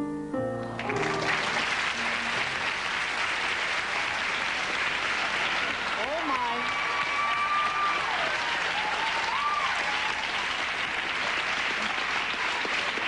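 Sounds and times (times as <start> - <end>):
audience applauding: 0.7 - 13.0.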